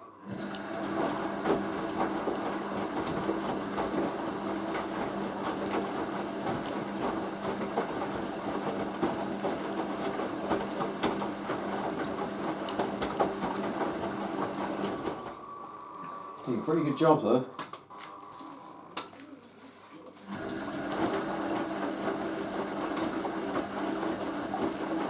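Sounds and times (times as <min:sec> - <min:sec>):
washing machine motor hum: 0:00.0 - 0:19.2, 0:20.1 - 0:25.0.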